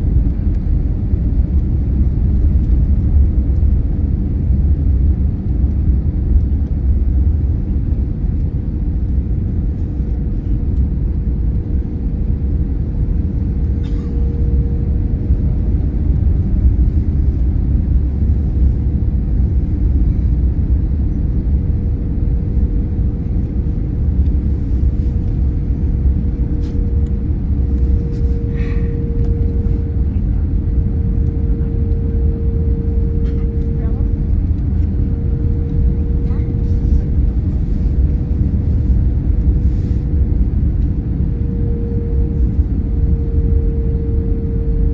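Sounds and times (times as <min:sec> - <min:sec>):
airliner engine and airflow rumble: 0:00.0 - 0:44.9
steady hum: 0:00.0 - 0:44.9.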